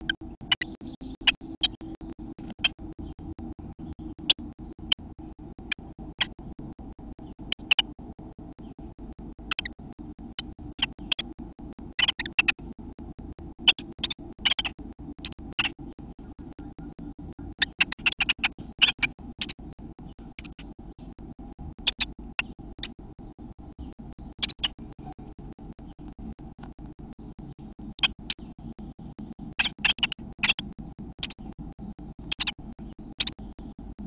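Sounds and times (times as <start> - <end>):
fast-pulsing hum: 0.0 - 34.0.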